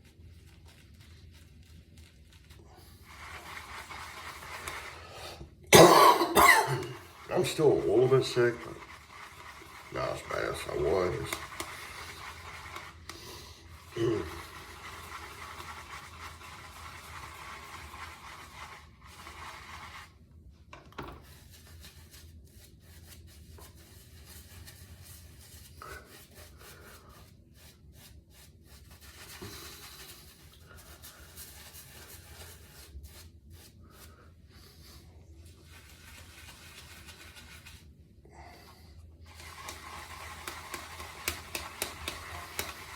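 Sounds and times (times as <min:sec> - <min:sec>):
shaving brush rubbing lather: 0:00.0 - 0:20.3, 0:21.2 - 0:38.0, 0:38.6 - 0:42.9.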